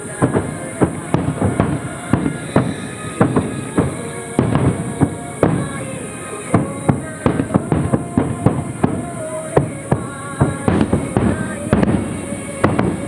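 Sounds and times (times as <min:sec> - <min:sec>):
distant fireworks bangs: 0:00.0 - 0:13.0
music: 0:00.0 - 0:13.0.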